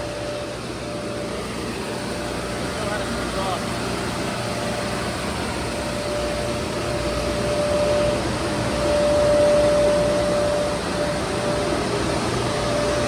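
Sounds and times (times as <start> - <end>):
air conditioner fan rush: 0.0 - 13.0
thin steady whine: 0.0 - 13.0.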